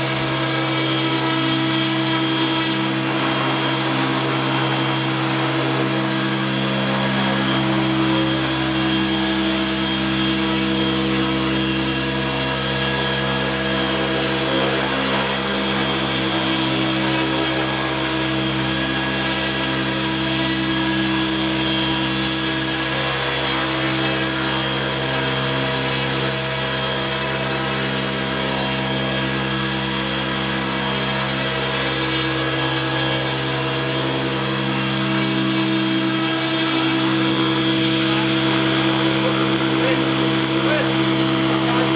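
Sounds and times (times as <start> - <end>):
toy helicopter hovering whine: 0.0 - 41.9.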